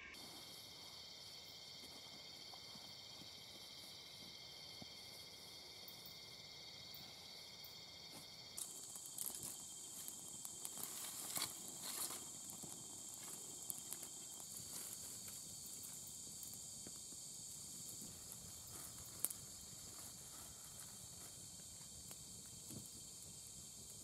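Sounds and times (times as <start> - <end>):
night insects chirping: 0.0 - 24.0.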